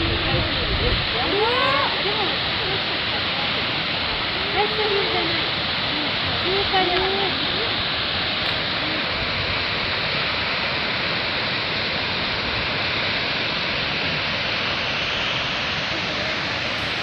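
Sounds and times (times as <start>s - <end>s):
rushing water plunging: 0.0s - 17.0s.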